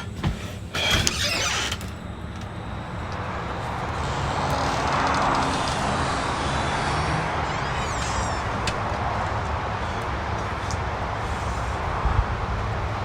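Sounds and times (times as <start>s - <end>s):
door opening with clicks and creak: 0.0s - 10.9s
steady rushing noise: 2.0s - 13.0s.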